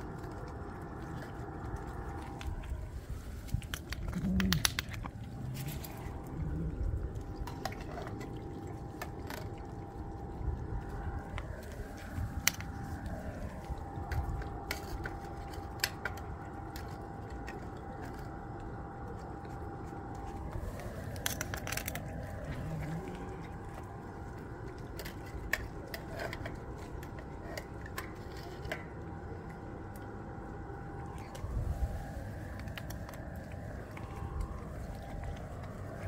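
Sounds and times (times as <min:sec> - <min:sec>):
cats chewing food: 0:00.0 - 0:36.0
faint steady hum: 0:00.0 - 0:36.0.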